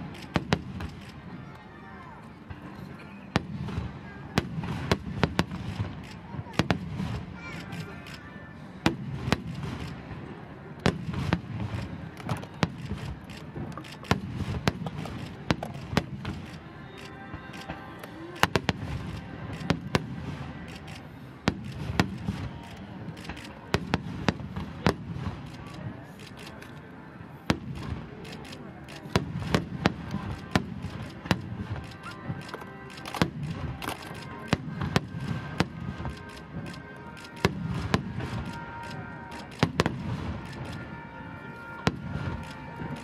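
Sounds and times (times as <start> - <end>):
fireworks bursting with sharp bangs: 0.0 - 1.5, 3.3 - 8.2, 8.8 - 26.7, 27.4 - 43.0.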